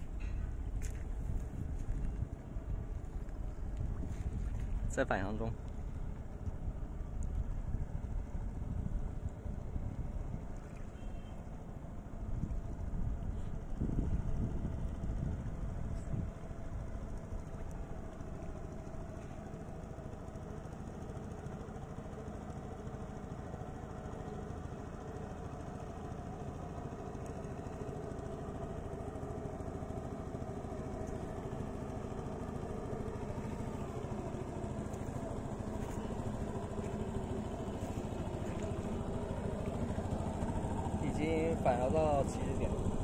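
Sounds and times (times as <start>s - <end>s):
boat motors humming: 0.0s - 43.0s.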